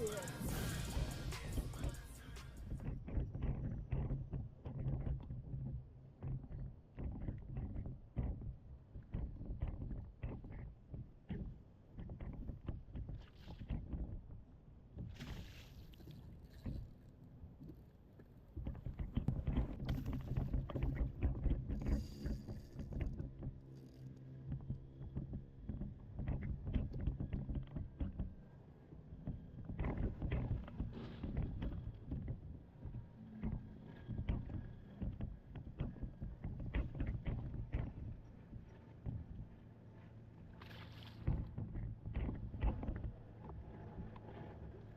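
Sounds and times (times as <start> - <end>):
water slapping hull: 1.6 - 14.3, 14.9 - 44.9.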